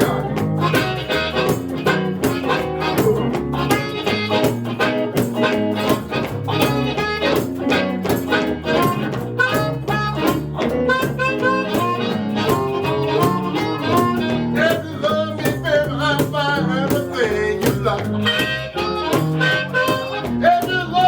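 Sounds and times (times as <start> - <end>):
harmonica lead: 0.0 - 21.0
live blues band playing: 0.0 - 21.0.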